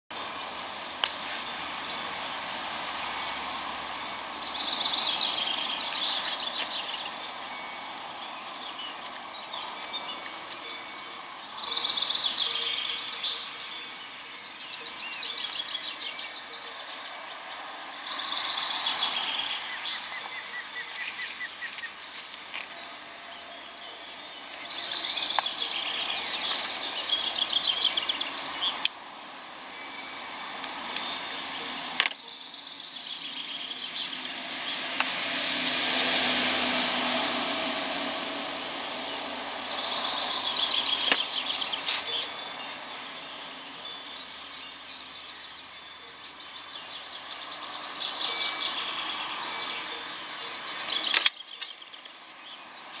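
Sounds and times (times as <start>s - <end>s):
songbirds singing: 0.1s - 53.0s
steady background noise: 0.1s - 53.0s.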